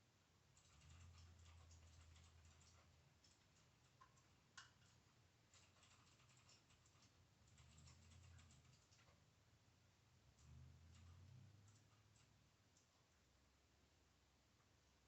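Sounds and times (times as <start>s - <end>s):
faint ticks and clicks: 0.5s - 9.4s, 10.2s - 13.6s.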